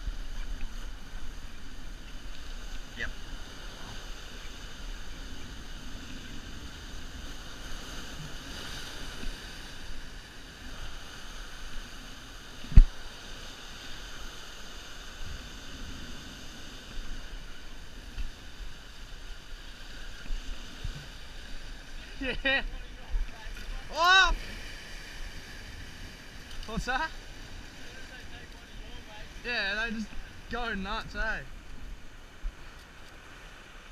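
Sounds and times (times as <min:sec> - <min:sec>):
ocean waves breaking over rocks: 0:00.0 - 0:33.9.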